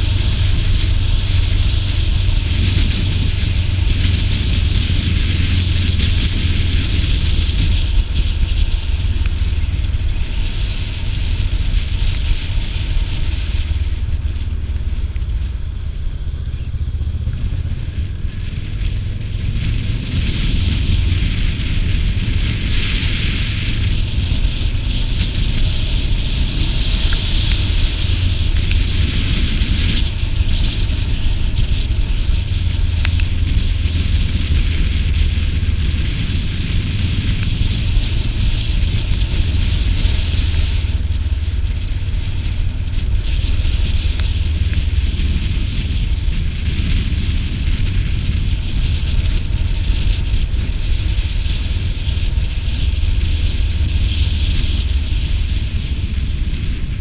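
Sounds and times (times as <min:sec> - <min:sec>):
motorcycle engine rumble: 0:00.0 - 0:57.0
wind rushing on microphone: 0:00.0 - 0:57.0.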